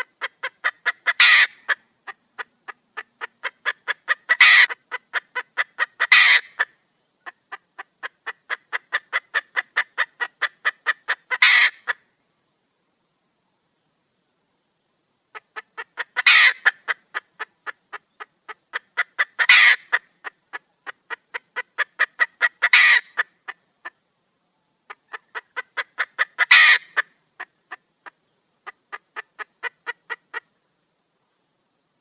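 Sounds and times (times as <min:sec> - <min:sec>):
hen cackling: 0:00.0 - 0:12.1, 0:15.3 - 0:24.0, 0:24.9 - 0:30.5
hen clucking: 0:00.0 - 0:12.1, 0:15.3 - 0:24.0, 0:24.8 - 0:30.6.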